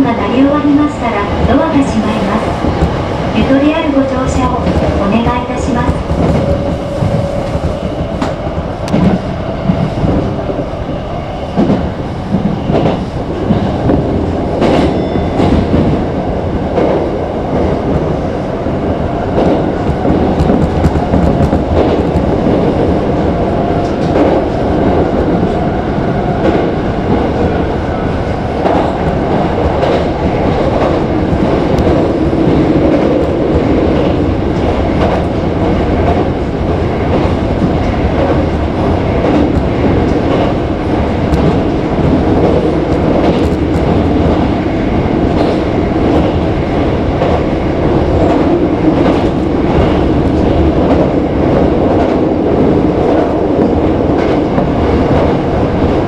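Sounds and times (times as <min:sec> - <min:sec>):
electric train rolling and humming: 0:00.0 - 0:56.0.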